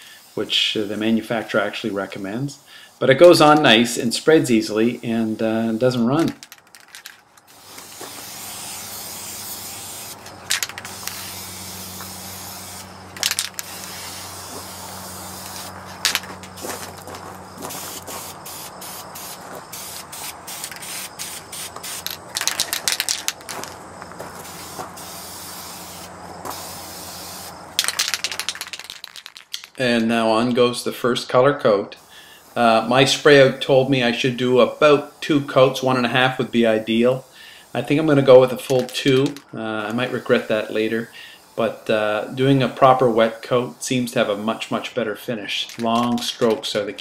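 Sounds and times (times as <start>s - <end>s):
spray paint can hissing: 0.0s - 2.3s, 2.9s - 29.8s, 32.0s - 44.9s, 45.5s - 47.0s.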